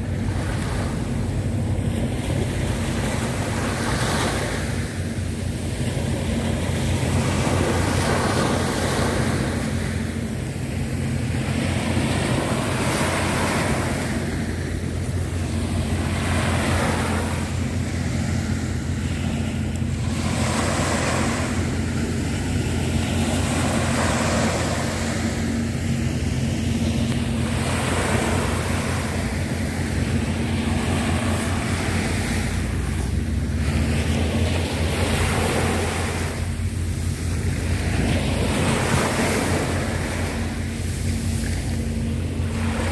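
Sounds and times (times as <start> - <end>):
sea waves washing onto shore: 0.0 - 42.9
steady low rumble: 0.0 - 42.9.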